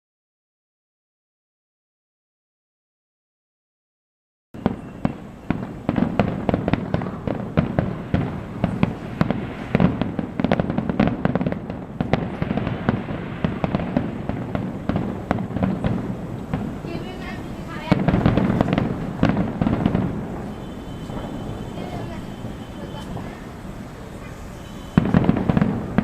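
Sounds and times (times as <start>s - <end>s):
fireworks bangs and crackles: 4.6s - 26.0s.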